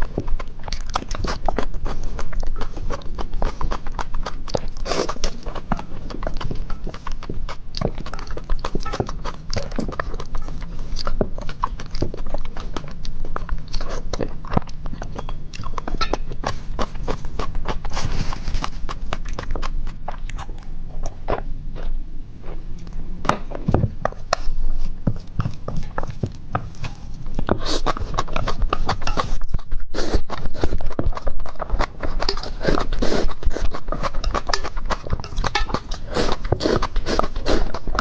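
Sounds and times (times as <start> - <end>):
person chewing and slurping noodles: 0.0 - 38.0.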